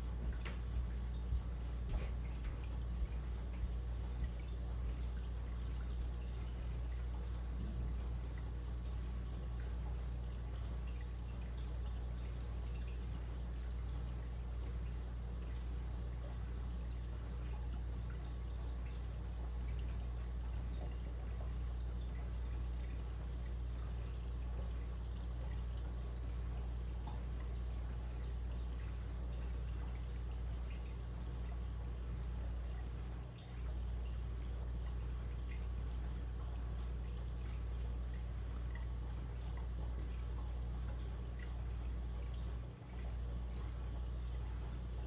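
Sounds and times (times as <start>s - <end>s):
circulation pumps humming: 0.0s - 45.0s
water trickling and dripping: 0.0s - 45.0s.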